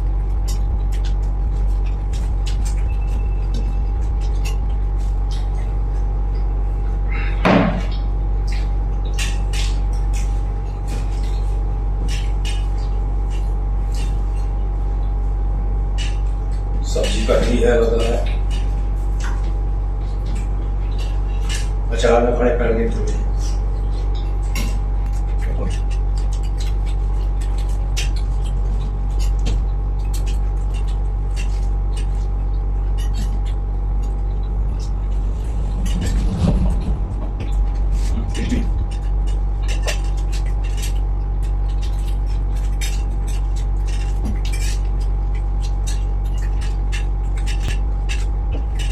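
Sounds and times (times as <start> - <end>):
low hum with faint whine: 0.0 - 48.9.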